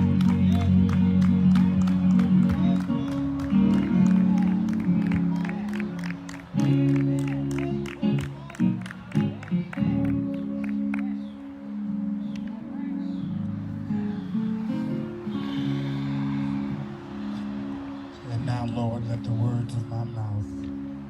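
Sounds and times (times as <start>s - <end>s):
held low organ-like chords: 0.0s - 21.0s.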